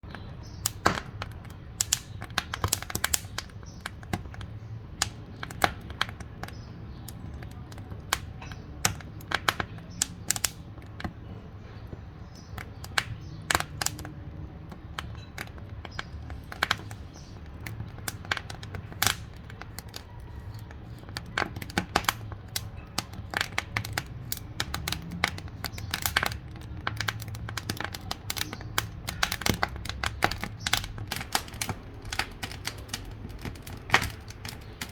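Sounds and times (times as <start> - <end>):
wood fire crackling in stove: 0.1 - 34.9.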